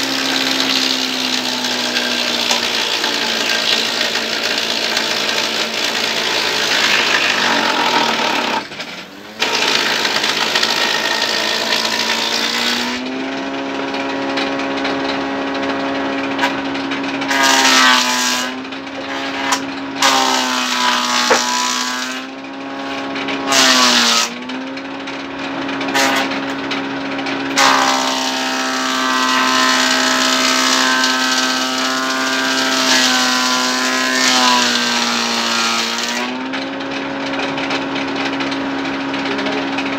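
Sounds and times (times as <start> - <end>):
saw cutting planks: 0.0 - 24.9, 25.5 - 39.9
band saw humming: 0.0 - 39.9.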